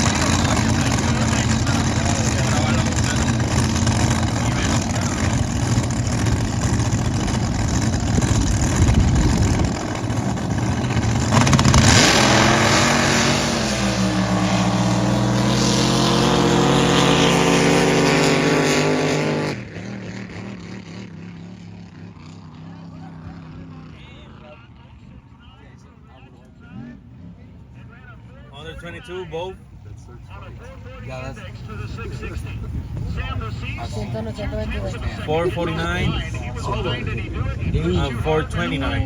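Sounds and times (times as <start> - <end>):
racing boat engine roaring: 0.0 - 39.0.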